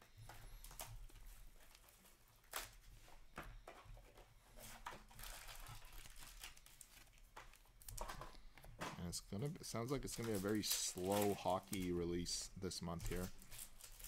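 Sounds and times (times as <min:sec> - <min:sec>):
trading cards rustling and clicking: 0:00.2 - 0:08.9, 0:09.6 - 0:14.0.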